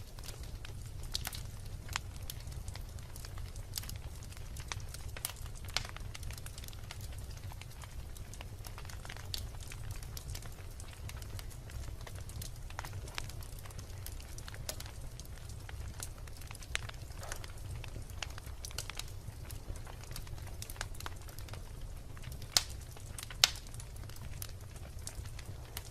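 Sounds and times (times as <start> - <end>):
logs crackling and popping: 0.0 - 25.9
low rumble of flames: 0.0 - 25.9.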